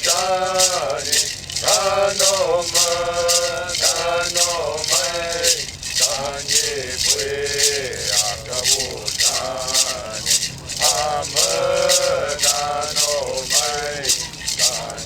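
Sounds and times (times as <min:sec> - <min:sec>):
hand rattle shaken: 0:00.0 - 0:15.0
person chanting: 0:00.0 - 0:15.0.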